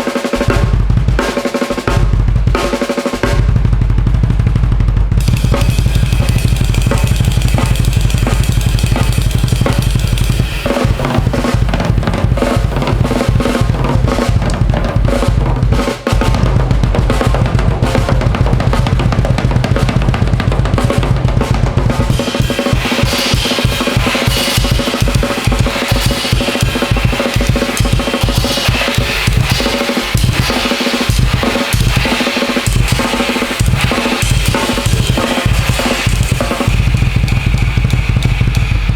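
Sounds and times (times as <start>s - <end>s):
drum kit played fast: 0.0s - 38.9s.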